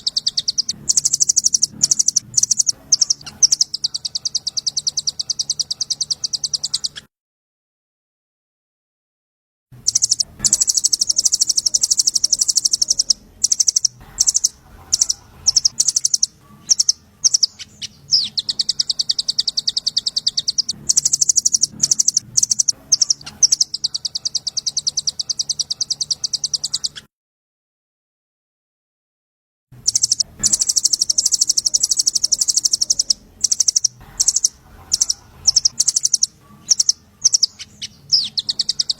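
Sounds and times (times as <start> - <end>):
songbird trilling: 0.0 - 7.0, 9.8 - 27.1, 29.9 - 38.9.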